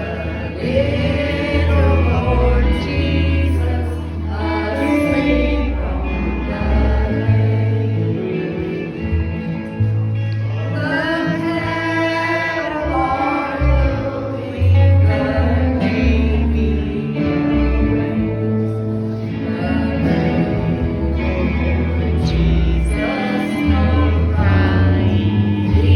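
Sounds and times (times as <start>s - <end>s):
gospel singing: 0.0s - 25.9s
instrumental backing with bass notes: 0.0s - 25.9s.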